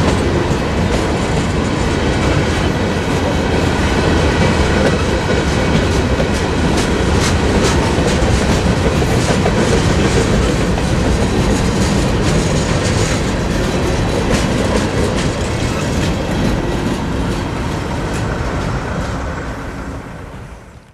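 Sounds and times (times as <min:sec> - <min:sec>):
freight train rolling past: 0:00.0 - 0:20.9.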